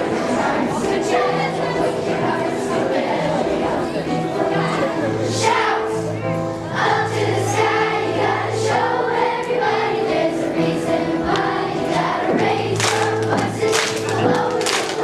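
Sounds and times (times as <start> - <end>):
girls singing together: 0.0 - 15.0
instrumental accompaniment: 0.0 - 15.0.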